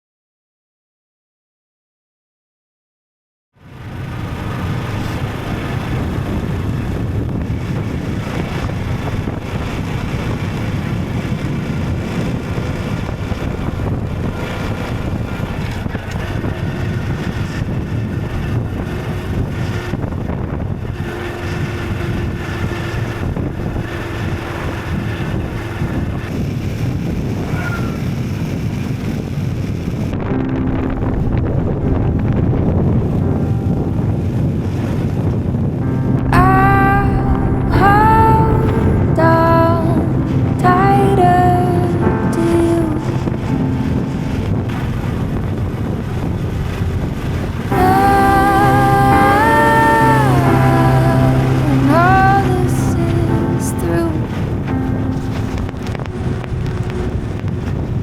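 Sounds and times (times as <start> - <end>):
wind rushing over microphone: 3.6 - 58.0.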